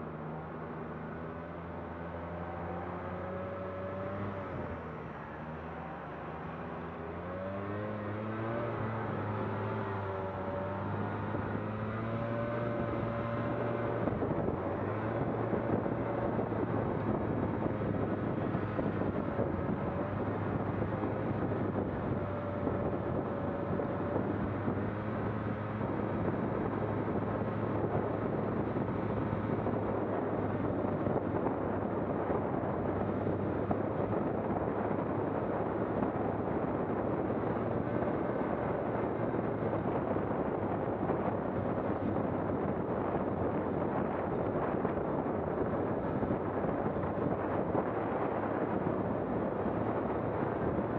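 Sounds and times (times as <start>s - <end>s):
wind noise on microphone: 6.2s - 50.9s.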